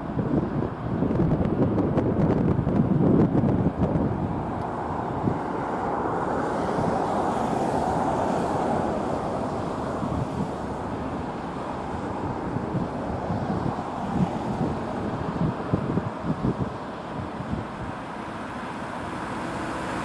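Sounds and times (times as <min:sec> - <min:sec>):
distant engine rumble: 0:00.0 - 0:20.0
wind buffeting microphone: 0:00.0 - 0:20.0.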